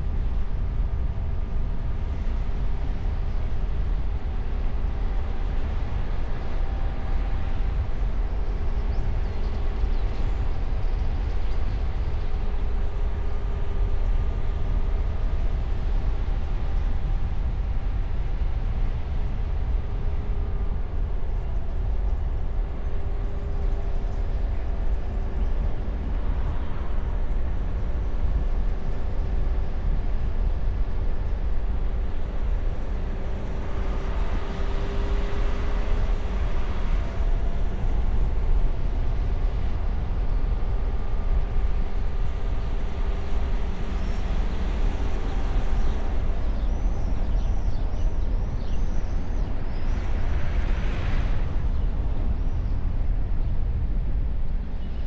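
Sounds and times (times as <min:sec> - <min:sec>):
faint engine hum: 0:00.0 - 0:55.0
wind and tyre noise: 0:00.0 - 0:55.0.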